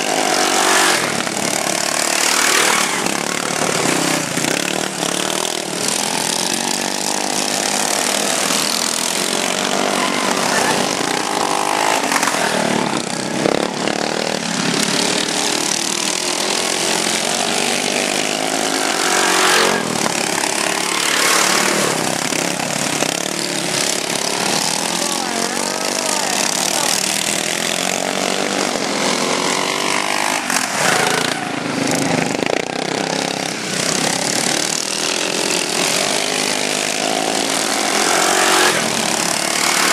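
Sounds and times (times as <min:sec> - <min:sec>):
lawn mower engines revving: 0:00.0 - 0:39.9.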